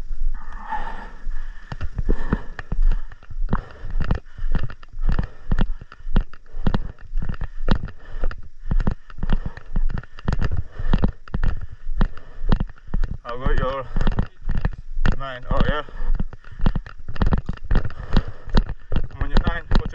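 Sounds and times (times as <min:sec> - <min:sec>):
footsteps walking: 0:00.0 - 0:19.9.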